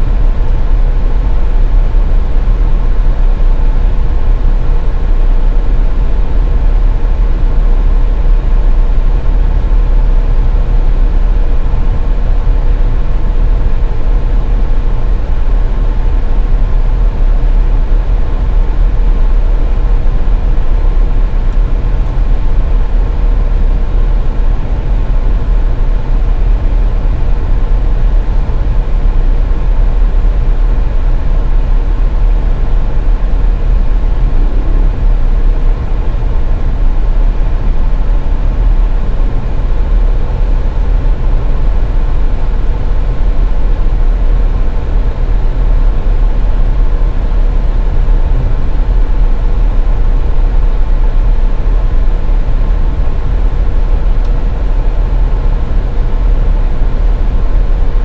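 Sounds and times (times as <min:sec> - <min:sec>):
car road and engine rumble: 0:00.0 - 0:58.0
faint steady hum: 0:00.0 - 0:58.0.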